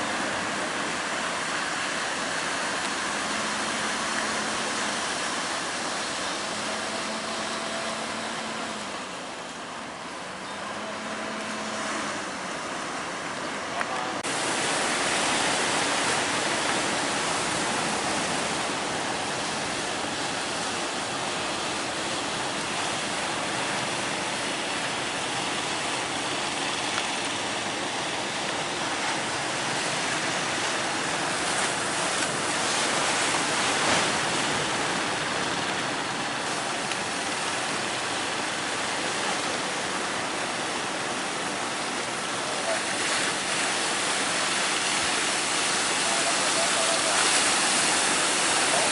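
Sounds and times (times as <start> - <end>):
sea waves breaking: 0.0 - 48.9.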